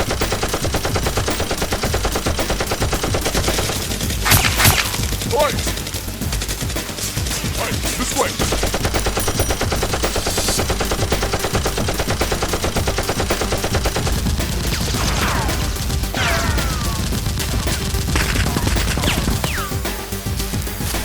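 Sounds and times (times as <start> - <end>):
rapid automatic gunfire: 0.0 - 21.0.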